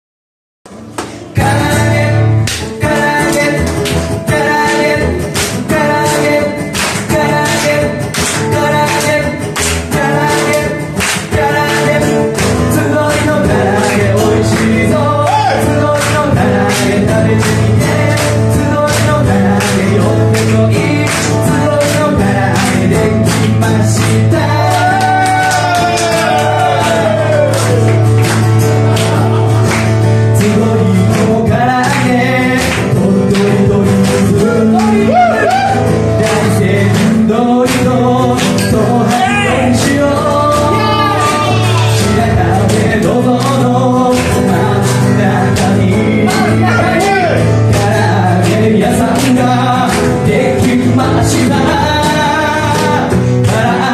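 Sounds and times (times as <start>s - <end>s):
bass: 0.7s - 53.9s
strummed acoustic guitar: 0.7s - 53.9s
person singing: 1.0s - 53.9s.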